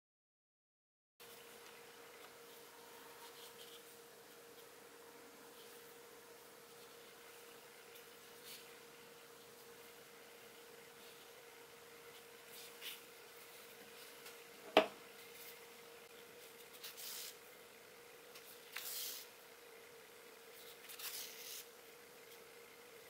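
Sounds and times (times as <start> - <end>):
faint steady hum: 1.2 - 23.0.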